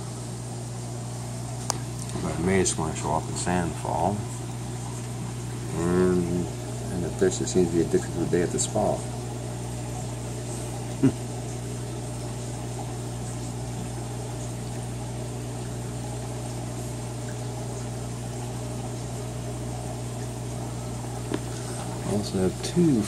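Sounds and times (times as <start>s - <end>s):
aquarium pump hum: 0.0s - 23.0s
moving water: 0.0s - 23.0s.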